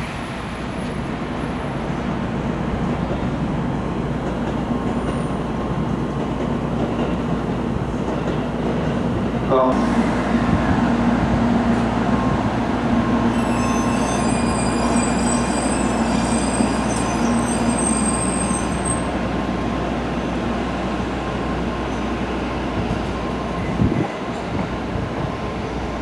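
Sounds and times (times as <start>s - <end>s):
train rushing: 0.0s - 26.0s.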